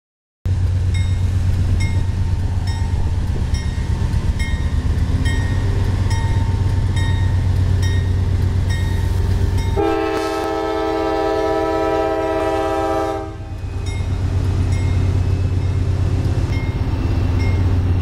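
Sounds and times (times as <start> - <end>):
diesel locomotive engines droning: 0.5 - 18.0.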